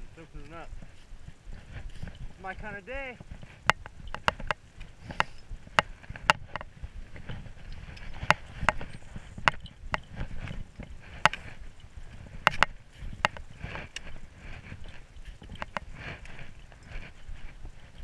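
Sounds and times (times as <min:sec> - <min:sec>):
climbing gear clinking: 0:03.4 - 0:18.0.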